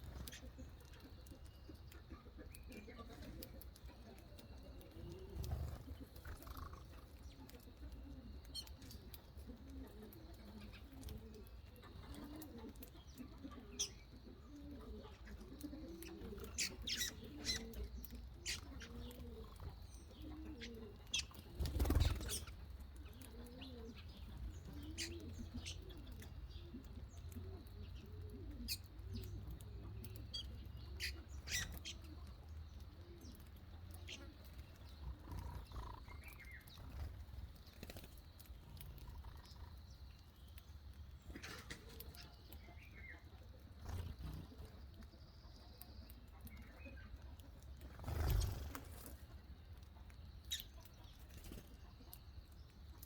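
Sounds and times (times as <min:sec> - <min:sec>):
pigeons cooing: 0:00.0 - 0:39.9, 0:41.2 - 0:49.2
small birds chirping: 0:00.0 - 0:53.0.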